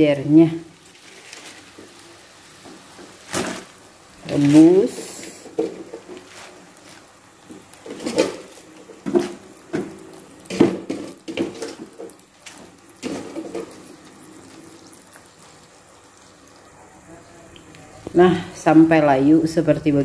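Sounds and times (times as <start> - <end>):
greens splashing in boiling water: 0.0 - 20.0
water simmering: 0.0 - 20.0.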